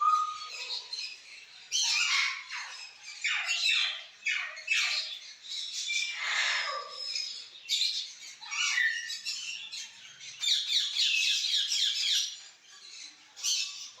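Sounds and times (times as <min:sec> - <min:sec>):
parrots squawking and chattering: 0:00.0 - 0:14.0.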